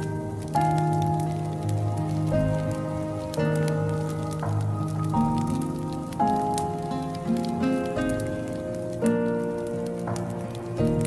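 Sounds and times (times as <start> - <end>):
soft instrumental music: 0.0 - 11.0
wood fire crackling in a stove: 0.0 - 11.0.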